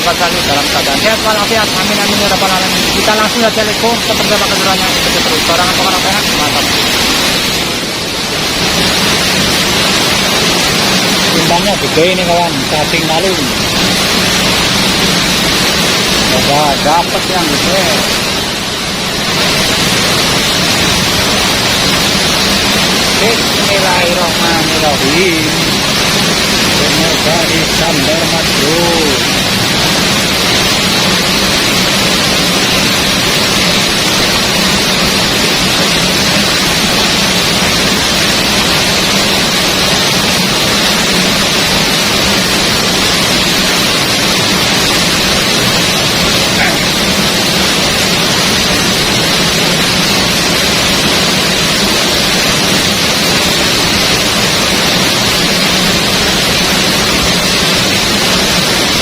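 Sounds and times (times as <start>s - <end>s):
waterfall crashing: 0.0s - 59.0s.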